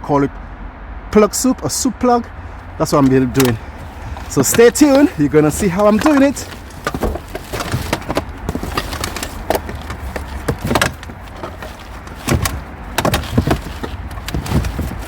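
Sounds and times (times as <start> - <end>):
junk knocking and clattering: 2.8 - 15.0.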